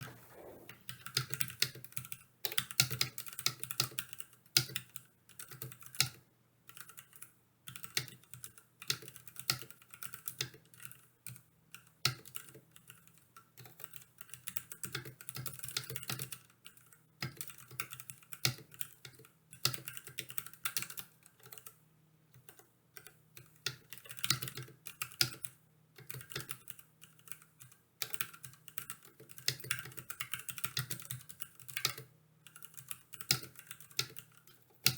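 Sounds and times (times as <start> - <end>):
mechanical keyboard typing: 0.4 - 34.9.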